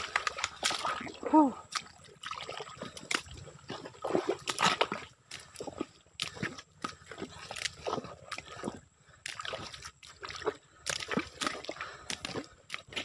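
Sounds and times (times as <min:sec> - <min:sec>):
footsteps squelching in mud: 0:00.0 - 0:13.0.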